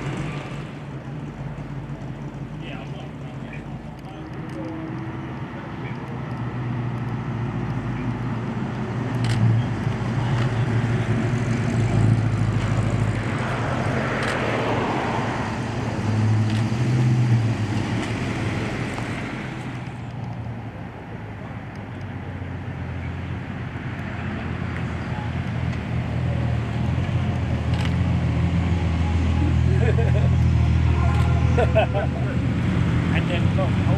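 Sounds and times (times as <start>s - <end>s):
car engines running: 0.0s - 33.9s.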